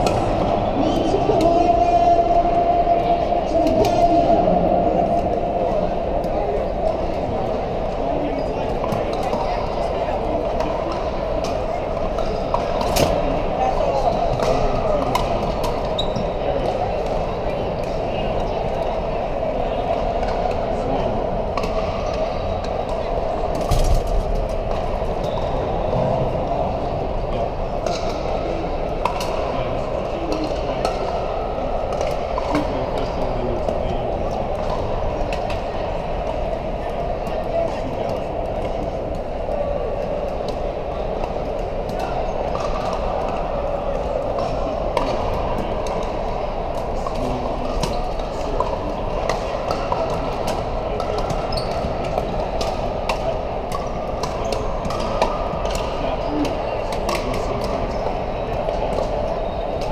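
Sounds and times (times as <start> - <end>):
din of voices in echoing hall: 0.0 - 59.9.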